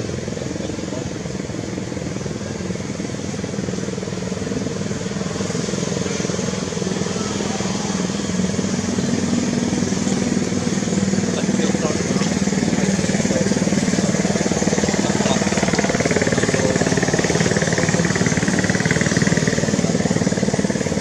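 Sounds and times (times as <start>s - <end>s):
motor engine humming: 0.0s - 21.0s.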